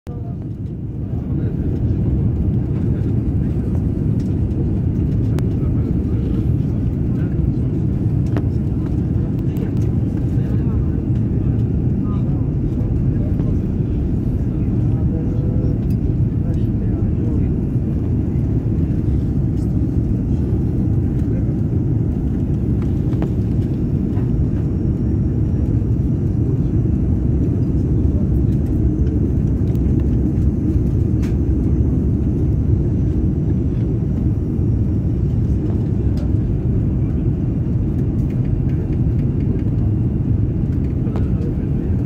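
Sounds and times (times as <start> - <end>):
airliner cabin engine rumble: 0.1 - 42.0.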